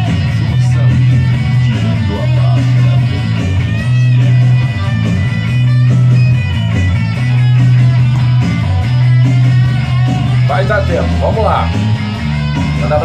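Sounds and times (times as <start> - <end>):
pulsing bass line: 0.0 - 13.0
rock music with guitars: 0.0 - 13.0.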